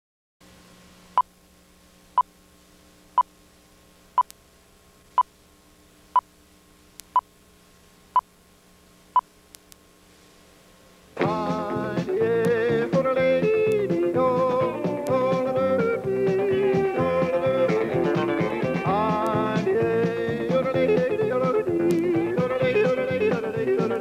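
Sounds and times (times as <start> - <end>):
faint low hum: 0.4 - 24.0.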